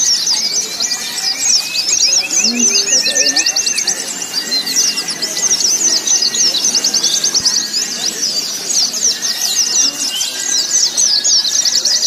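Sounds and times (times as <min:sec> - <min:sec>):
birds twittering chorus: 0:00.0 - 0:12.0.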